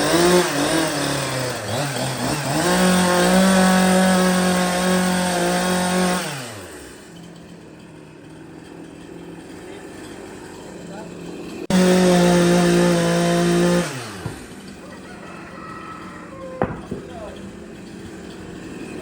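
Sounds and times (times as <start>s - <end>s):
power tool motor running: 0.0s - 19.0s.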